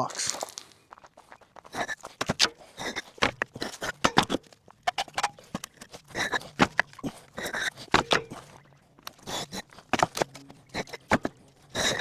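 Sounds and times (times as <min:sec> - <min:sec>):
footsteps: 0:00.0 - 0:12.0
concrete blocks knocking and scraping: 0:01.6 - 0:12.0.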